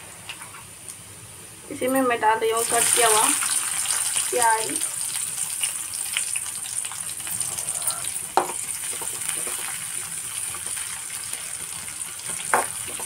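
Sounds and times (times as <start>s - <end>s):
onion sizzling in hot oil: 2.1s - 13.0s.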